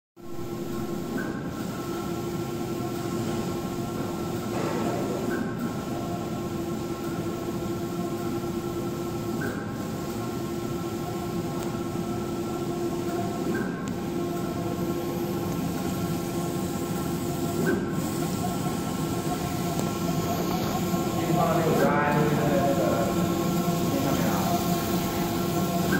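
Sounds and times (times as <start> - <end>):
printer carriage motor whine: 0.4 - 25.9.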